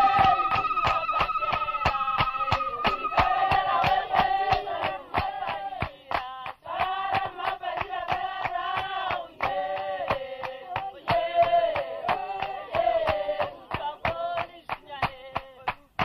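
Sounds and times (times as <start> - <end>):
sharp percussive beat: 0.0 - 16.0
voices singing together: 0.0 - 16.0.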